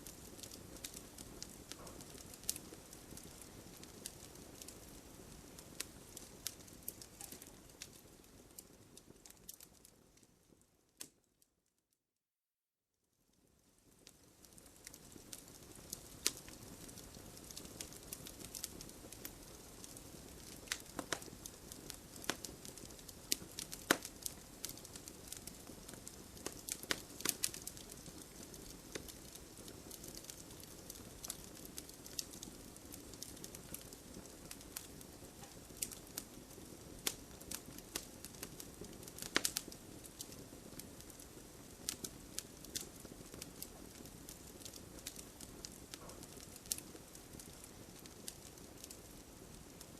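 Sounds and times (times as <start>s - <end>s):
burning wood crackling and popping: 0.0s - 11.3s, 13.6s - 49.9s.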